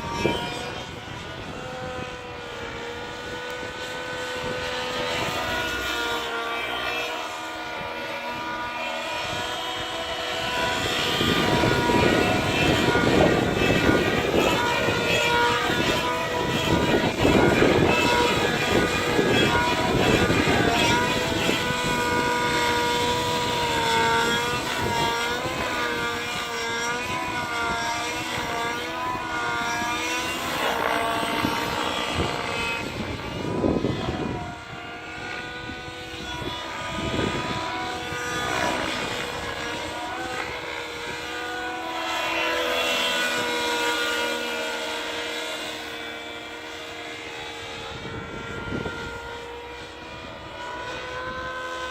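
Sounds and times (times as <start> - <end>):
model helicopter engine whining: 0.0 - 51.9.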